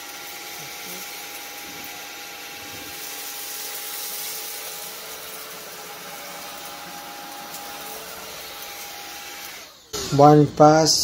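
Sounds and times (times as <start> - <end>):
stick vacuum running: 0.0 - 11.0.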